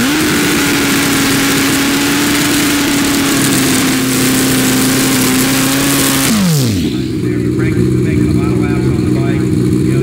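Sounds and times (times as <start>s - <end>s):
motorcycle engine at high revs: 0.0s - 10.0s.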